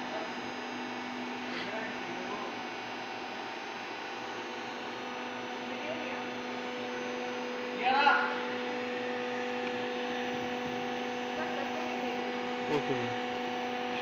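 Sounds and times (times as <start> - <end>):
hydraulic press motor humming: 0.0 - 14.0.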